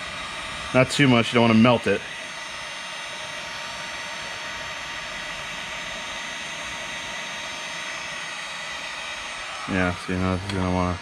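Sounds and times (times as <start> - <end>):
heat gun blowing hot air: 0.0 - 11.0.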